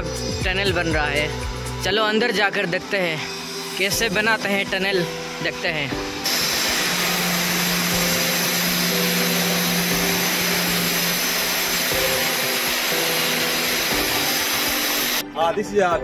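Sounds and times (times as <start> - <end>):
construction machinery rushing noise: 2.4 - 15.2.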